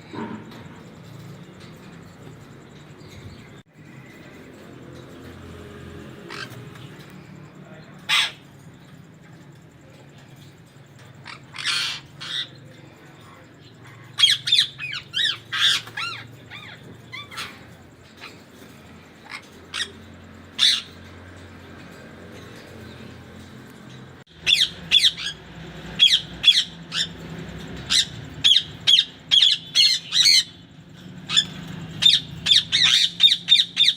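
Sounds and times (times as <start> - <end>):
parakeets squawking: 0.0 - 9.0, 10.4 - 33.9.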